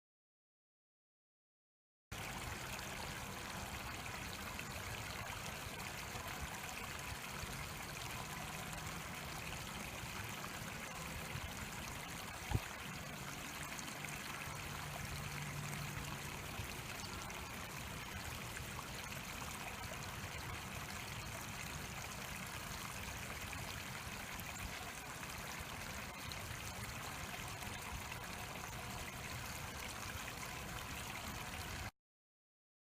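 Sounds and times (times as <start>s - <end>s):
water flowing through drain: 2.1s - 31.9s.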